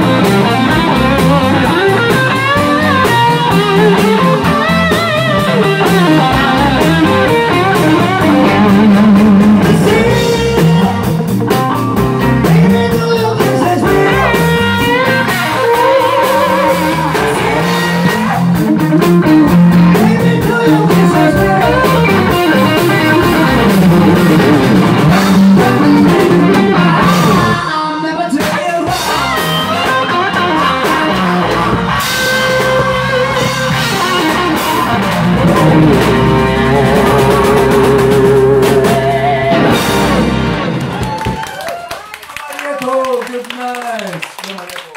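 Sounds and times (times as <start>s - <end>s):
man singing lead: 0.0s - 40.0s
rock band playing live: 0.0s - 42.0s.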